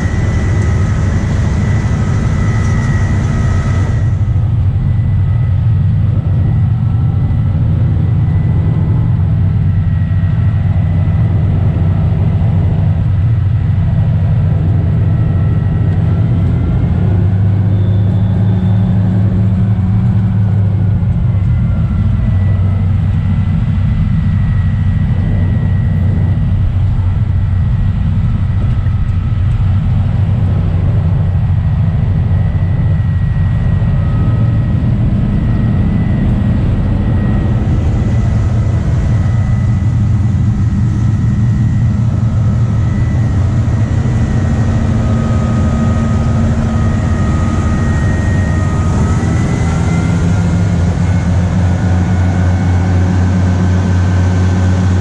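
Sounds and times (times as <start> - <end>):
diesel locomotive engine drone: 0.0 - 55.0
faint high whine: 0.0 - 55.0.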